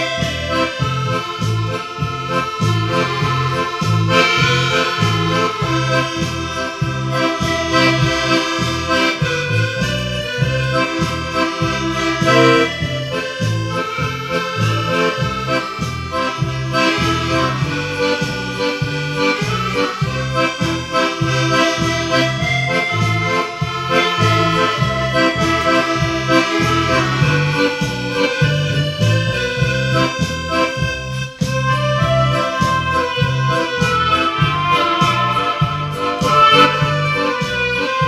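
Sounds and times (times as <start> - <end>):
instrumental music with bass beat: 0.0 - 38.0.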